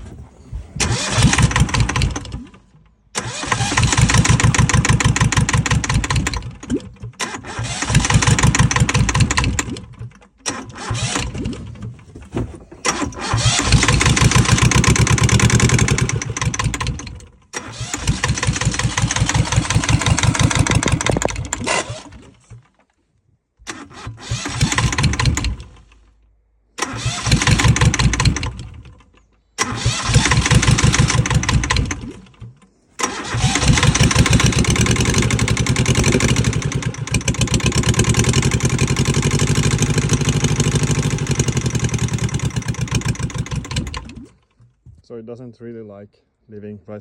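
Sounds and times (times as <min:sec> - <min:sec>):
diesel engine starting and running: 0:00.0 - 0:22.9, 0:23.7 - 0:44.6.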